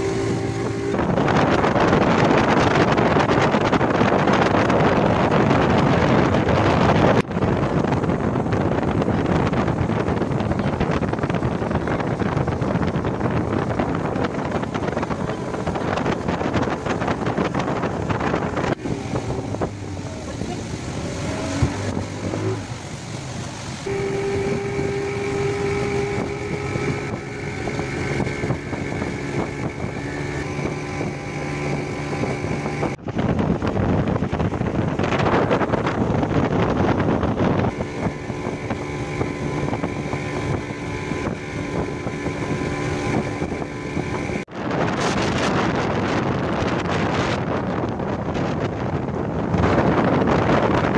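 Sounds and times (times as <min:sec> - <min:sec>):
speedboat engine running: 0:00.0 - 0:50.9
wind and water rushing: 0:00.0 - 0:50.9.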